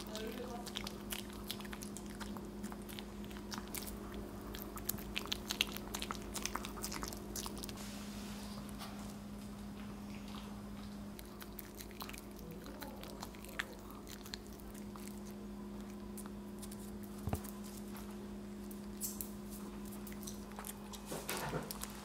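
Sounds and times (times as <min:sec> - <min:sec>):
dogs chewing: 0:00.0 - 0:07.8, 0:08.6 - 0:22.0.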